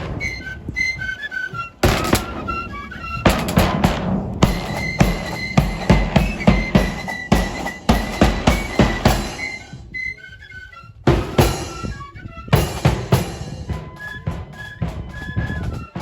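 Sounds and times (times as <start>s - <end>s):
accordion band playing a march: 0.0s - 16.0s
bass drum and snare drums: 1.8s - 9.9s, 11.1s - 16.0s.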